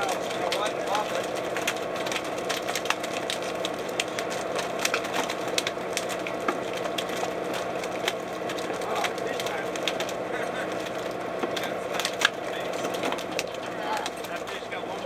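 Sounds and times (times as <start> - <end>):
boat engine drone: 0.0 - 15.0
sharp clicks and cracks: 0.0 - 15.0.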